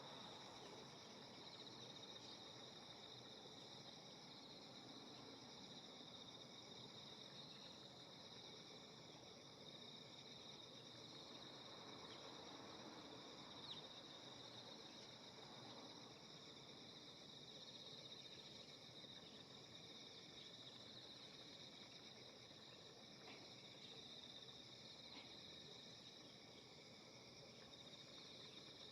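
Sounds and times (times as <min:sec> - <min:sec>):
insects trilling: 0:00.0 - 0:28.9
low outdoor hum: 0:00.0 - 0:28.9.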